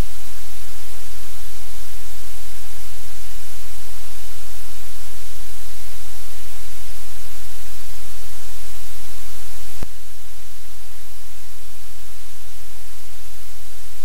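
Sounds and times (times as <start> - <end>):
low electrical hum: 0.0 - 14.0
static hiss: 0.0 - 14.0.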